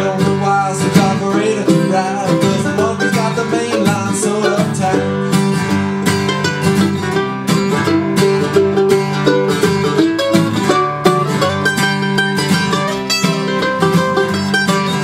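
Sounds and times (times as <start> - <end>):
acoustic guitar strumming: 0.0 - 15.0
mandolin picking: 0.0 - 15.0.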